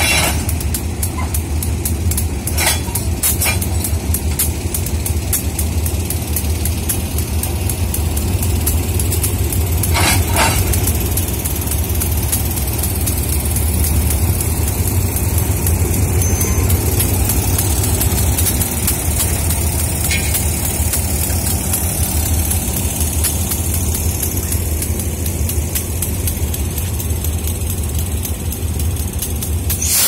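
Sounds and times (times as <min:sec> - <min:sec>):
locomotive engine idling: 0:00.0 - 0:30.0.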